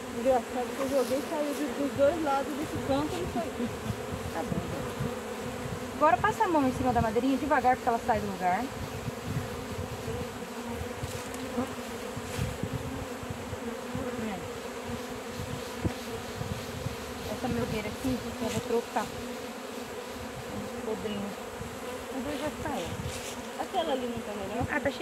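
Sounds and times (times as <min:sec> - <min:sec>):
bees humming: 0:00.0 - 0:25.0
single bee buzzing past: 0:00.0 - 0:25.0.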